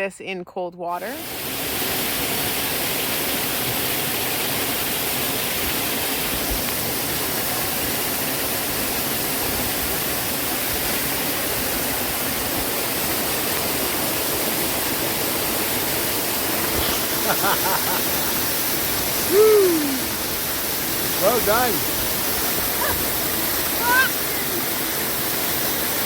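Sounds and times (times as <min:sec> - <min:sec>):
waterfall rushing: 0:01.2 - 0:26.0.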